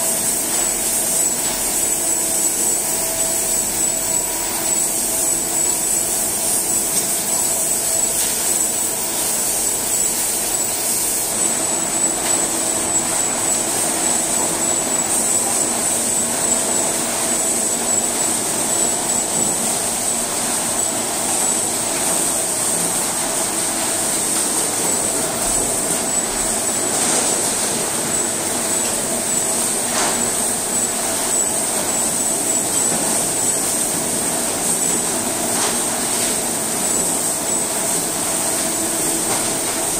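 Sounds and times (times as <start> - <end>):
constant high whine: 0.0 - 39.9.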